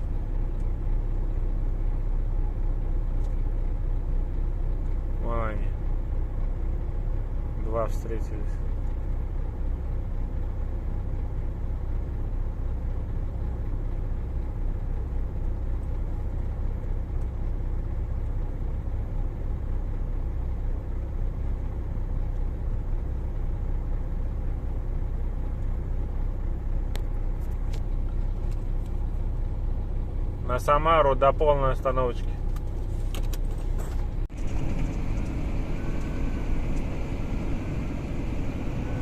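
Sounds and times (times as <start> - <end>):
diesel truck engine drone: 0.0 - 39.0
road noise: 0.0 - 39.0.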